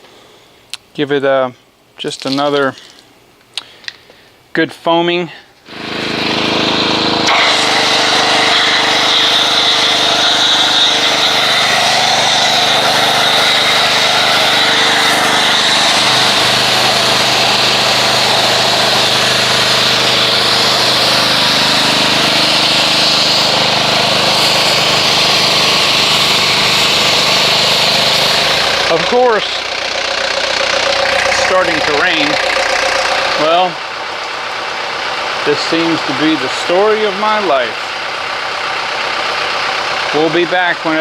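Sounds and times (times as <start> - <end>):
pressure washer motor drone: 5.7 - 41.0.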